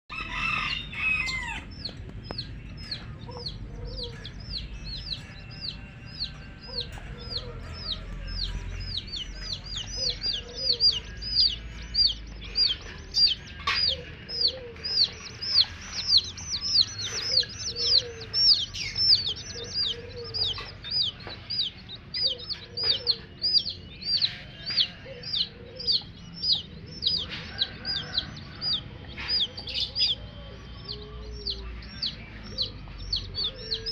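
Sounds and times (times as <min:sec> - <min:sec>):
baby chicks peeping: 0:00.1 - 0:33.9
hen clucks: 0:00.2 - 0:30.2.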